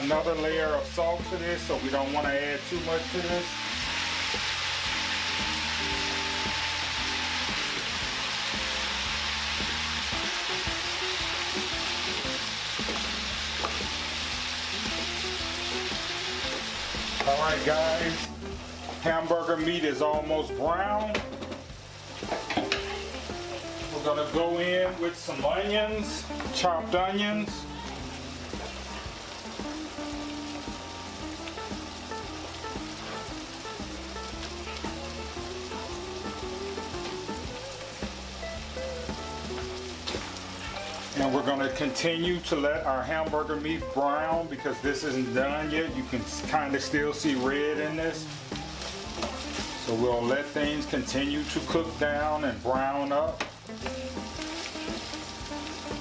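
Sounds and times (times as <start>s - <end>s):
meat sizzling in a pan: 0.0s - 56.0s.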